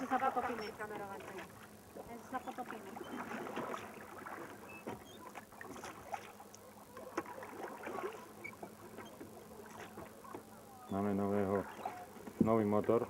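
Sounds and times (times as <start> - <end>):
oars splashing in water: 0.0 - 12.6.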